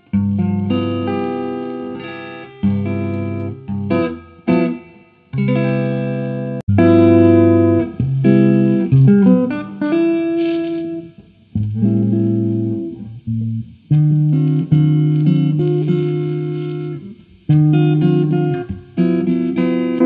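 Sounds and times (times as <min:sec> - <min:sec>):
electric guitar notes and chords: 0:00.0 - 0:20.0.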